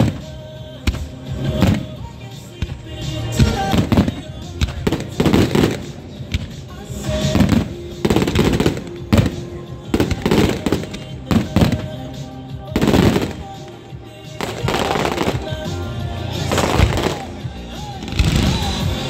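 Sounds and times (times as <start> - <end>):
firework crackling trails: 0.0 - 19.0.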